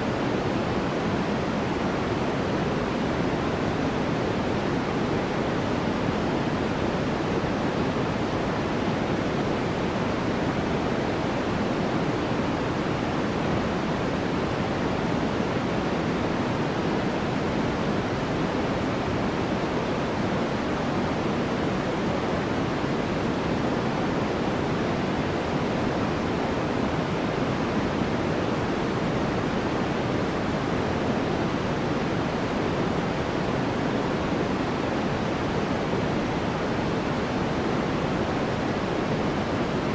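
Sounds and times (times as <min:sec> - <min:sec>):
low steady hiss: 0:00.0 - 0:39.9.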